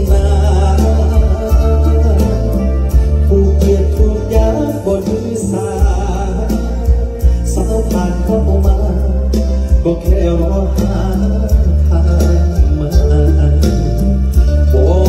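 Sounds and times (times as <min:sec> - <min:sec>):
drum beats: 0:00.0 - 0:15.0
live band with singer: 0:00.0 - 0:15.0.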